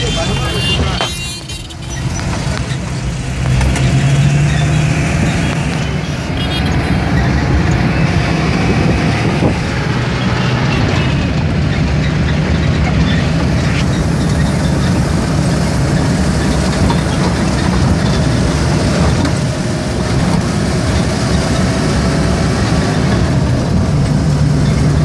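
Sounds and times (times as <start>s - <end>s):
van engine and road noise: 0.0s - 25.0s.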